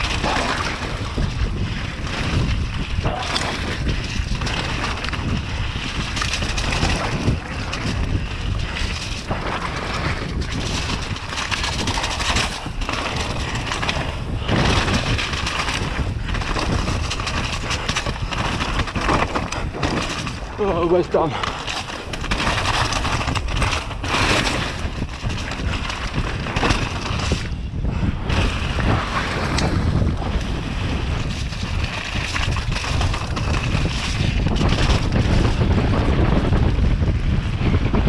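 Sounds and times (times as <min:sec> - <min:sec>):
bike clattering over bumps: 0:00.0 - 0:38.0
tyres rumbling on dirt: 0:00.0 - 0:38.0
wind buffeting microphone: 0:00.0 - 0:38.0.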